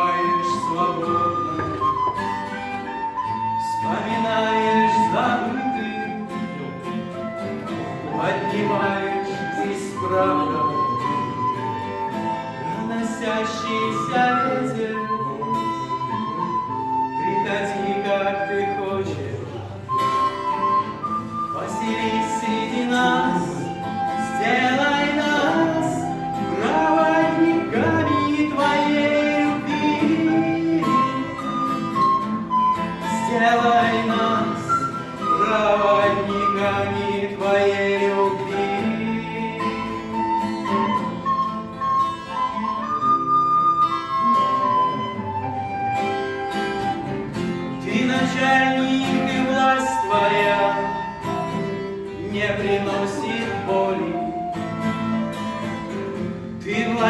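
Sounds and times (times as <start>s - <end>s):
acoustic guitar: 0.0s - 57.0s
flute-like melody: 0.0s - 57.0s.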